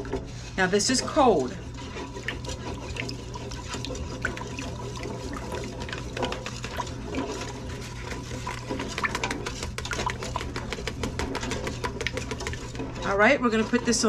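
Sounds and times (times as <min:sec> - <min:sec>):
liquid swishing: 0:00.0 - 0:14.0.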